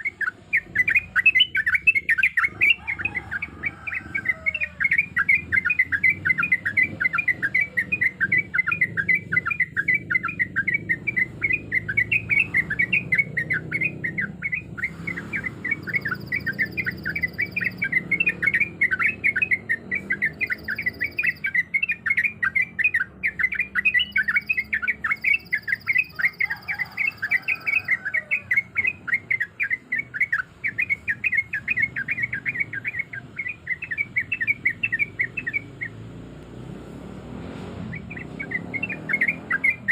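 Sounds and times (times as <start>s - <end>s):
bird singing fast chatter: 0.0s - 36.4s, 37.7s - 39.9s.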